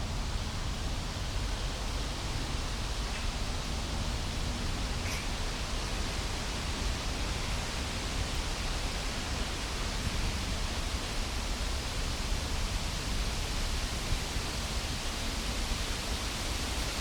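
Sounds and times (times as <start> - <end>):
low wind rumble on microphone: 0.0 - 17.0
wind rushing through trees: 0.0 - 17.0.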